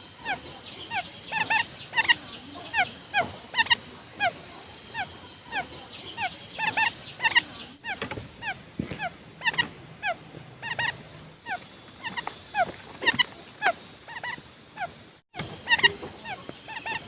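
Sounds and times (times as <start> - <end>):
quail decoy call chirps: 0.2 - 17.0.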